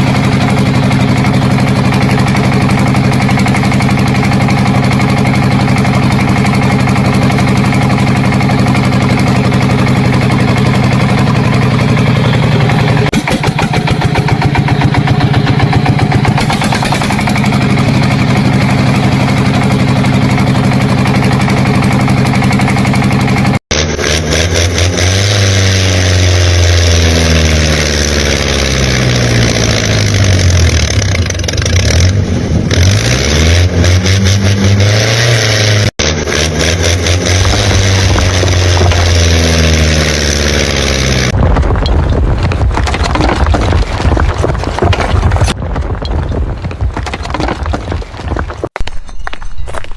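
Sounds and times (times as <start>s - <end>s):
engine revving: 0.0s - 41.4s.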